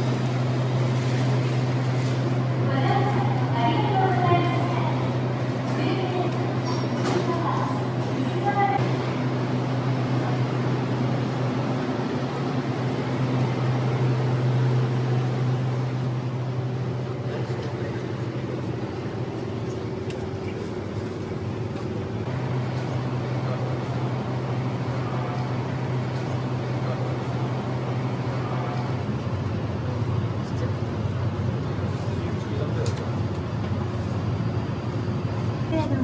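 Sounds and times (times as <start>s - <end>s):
train running hum: 0.0s - 36.0s.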